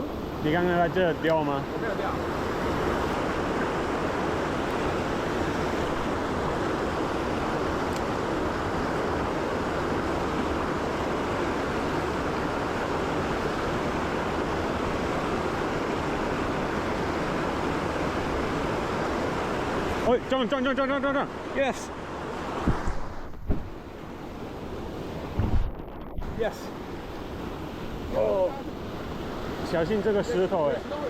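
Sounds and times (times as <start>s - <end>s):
mountain stream rushing over rocks: 0.0s - 31.0s.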